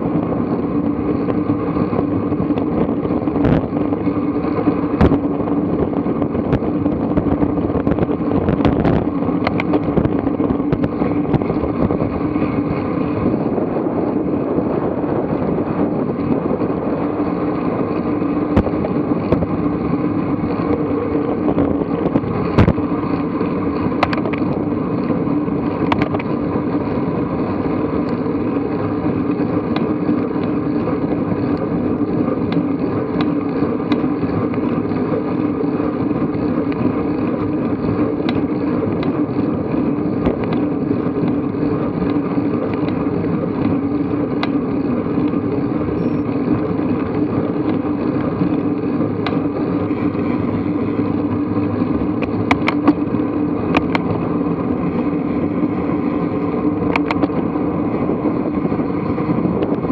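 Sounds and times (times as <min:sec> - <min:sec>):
tyre and road noise: 0:00.0 - 0:59.9
wind on microphone: 0:00.0 - 0:59.9.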